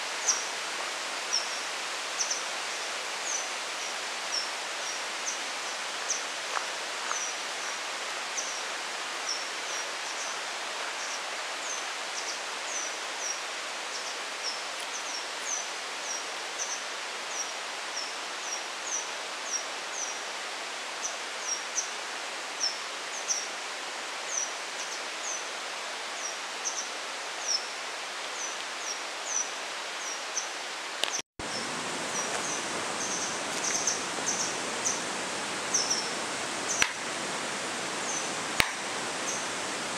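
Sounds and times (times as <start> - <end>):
forest ambience hiss: 0.0 - 39.9.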